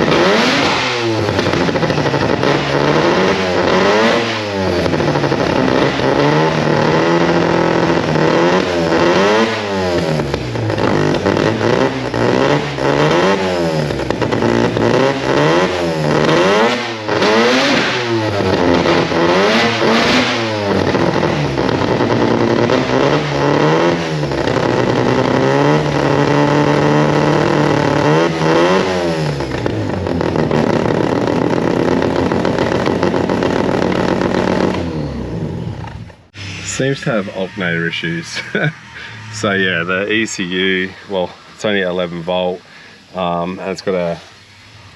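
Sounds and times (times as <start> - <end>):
rotary engine revving: 0.0 - 44.9.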